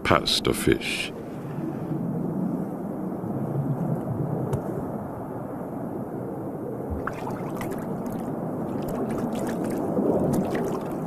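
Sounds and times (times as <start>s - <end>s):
muffled churning water: 0.0s - 11.0s.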